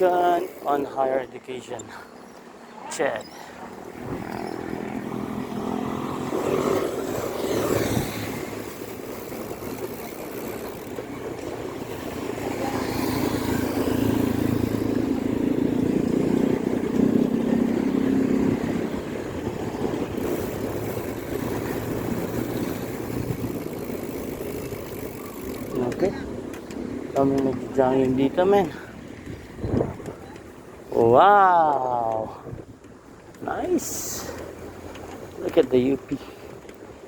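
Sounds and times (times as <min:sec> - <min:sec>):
vehicles passing: 0:00.0 - 0:37.0.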